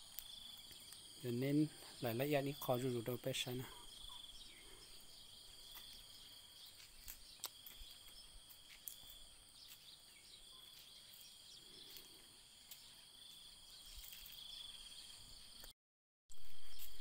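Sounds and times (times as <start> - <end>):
high-pitched insect chorus: 0.0 - 15.6, 16.3 - 17.0.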